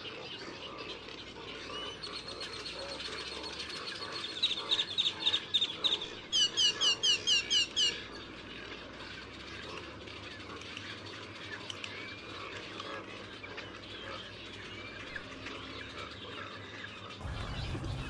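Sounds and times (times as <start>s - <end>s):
background chorus of bird calls: 0.0s - 18.0s
birds singing: 0.0s - 18.0s.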